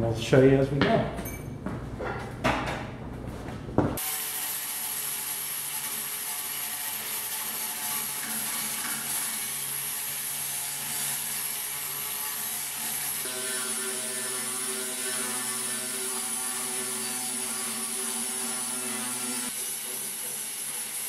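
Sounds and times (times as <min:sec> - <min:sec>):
angle grinder grinding metal: 0:04.0 - 0:21.0.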